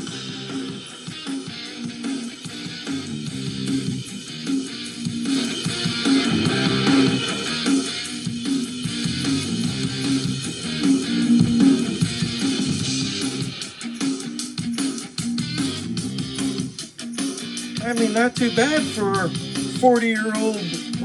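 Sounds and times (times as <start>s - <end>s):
guitar rock music from cassette: 0.0s - 21.0s.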